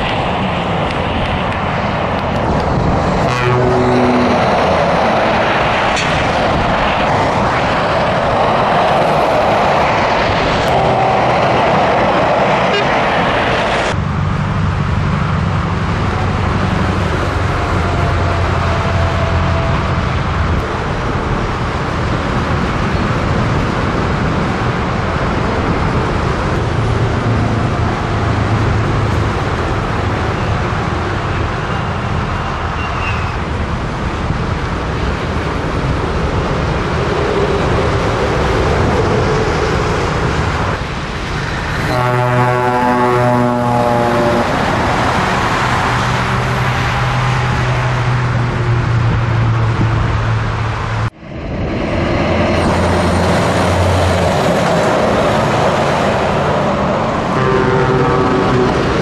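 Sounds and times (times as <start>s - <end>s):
truck engine drone: 0.0s - 59.0s
tyre and road noise: 0.0s - 59.0s.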